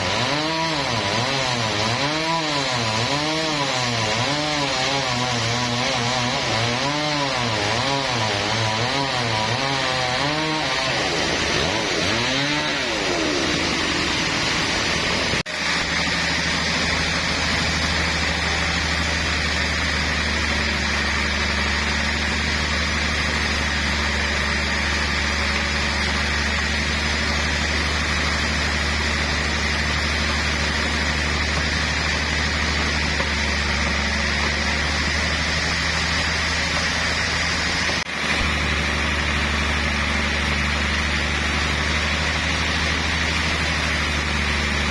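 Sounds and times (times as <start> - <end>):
sawmill saw cutting log: 0.0 - 44.9.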